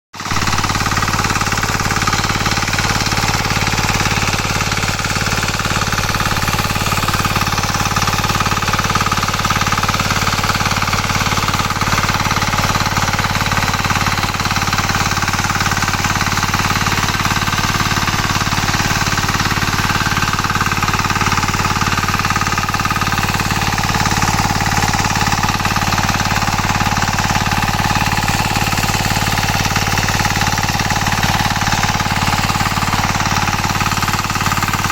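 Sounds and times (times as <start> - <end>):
single-cylinder engine pulsing: 0.2 - 34.9.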